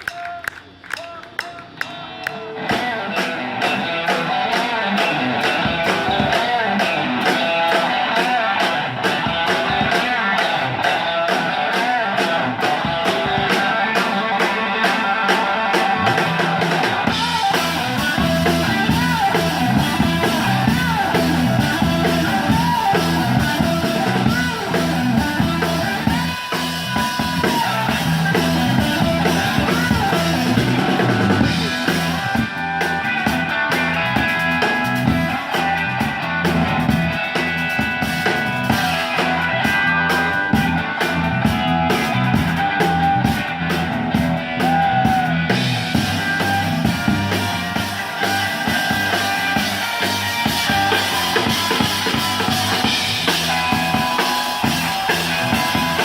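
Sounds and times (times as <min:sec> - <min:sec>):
live rock and roll band: 0:00.0 - 0:56.0.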